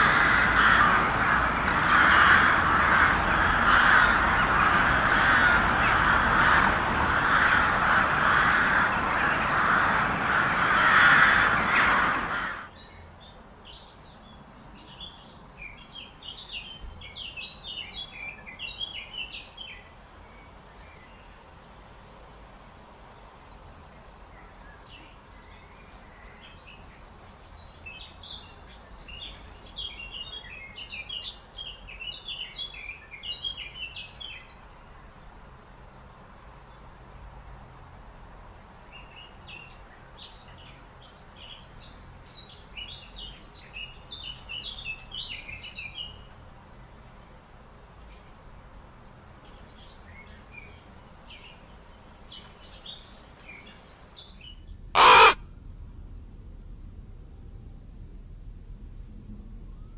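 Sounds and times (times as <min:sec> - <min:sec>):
songbirds chirping: 0:00.0 - 0:55.4
faint low background noise: 0:00.0 - 0:59.9.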